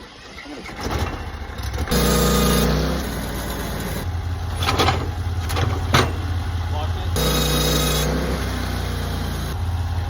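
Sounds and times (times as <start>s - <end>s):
sawmill engine running: 0.2s - 10.0s.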